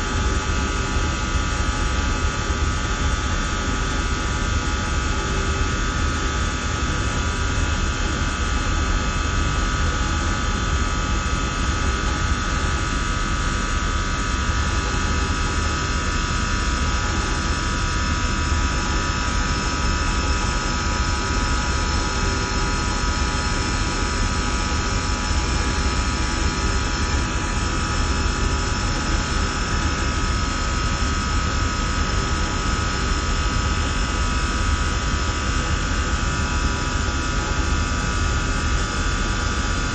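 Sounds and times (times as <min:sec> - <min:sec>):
hvac equipment low rumble: 0:00.0 - 0:39.9.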